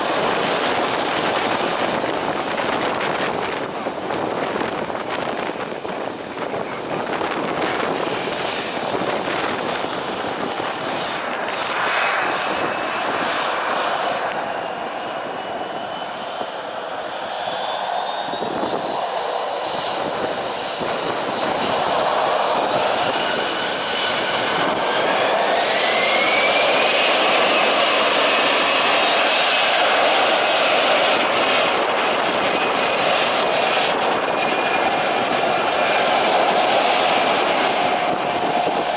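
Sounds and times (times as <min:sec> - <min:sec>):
jet engines roaring and whining: 0:00.0 - 0:38.9.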